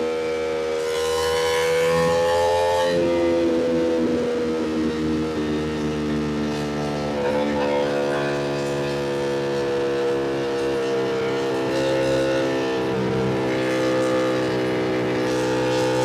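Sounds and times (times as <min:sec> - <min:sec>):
motorcycle engine pulling: 0:01.4 - 0:16.0.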